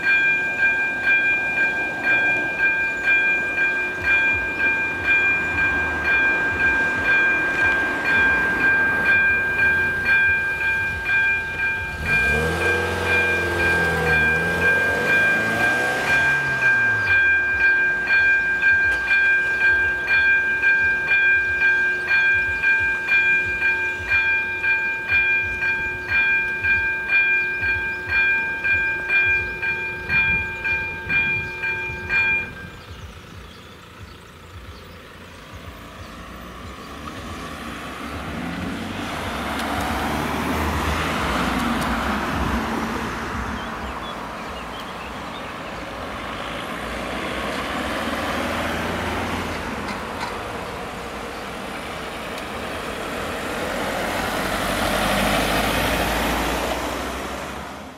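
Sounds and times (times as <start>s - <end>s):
level crossing warning bell: 0.0s - 57.2s
road vehicles driving: 0.0s - 57.9s.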